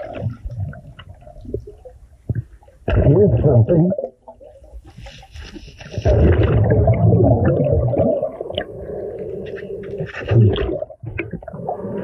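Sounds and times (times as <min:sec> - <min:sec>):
muffled underwater rumbling: 0:00.0 - 0:12.0.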